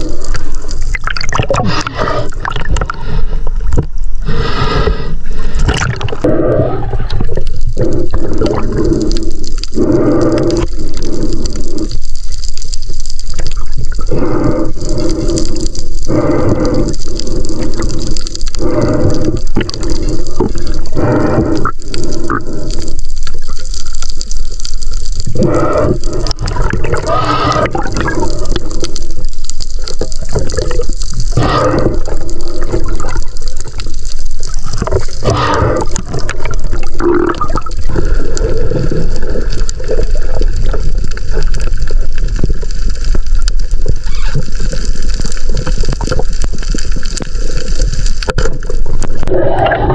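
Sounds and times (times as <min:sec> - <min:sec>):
water sloshing underwater: 0:00.0 - 0:49.9.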